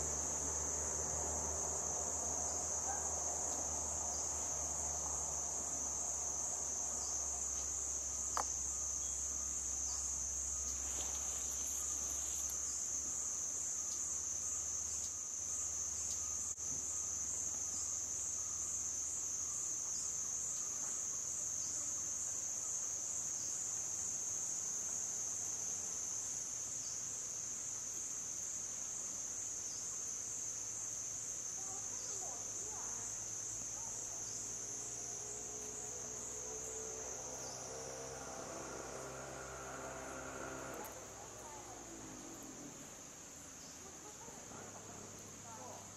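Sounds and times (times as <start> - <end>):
insect chorus shrill drone: 0.0 - 45.9.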